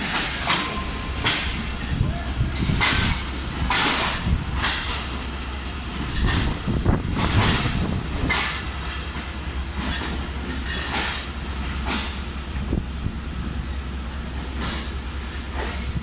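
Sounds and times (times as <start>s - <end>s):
low rumble of rolling coaches: 0.0s - 16.0s
train wheels clattering over joints: 0.0s - 16.0s.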